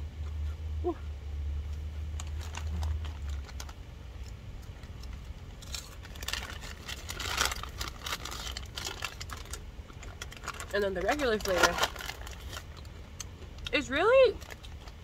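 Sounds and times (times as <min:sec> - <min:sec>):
low hum: 0:00.0 - 0:15.0
snack bag crinkling: 0:02.0 - 0:15.0.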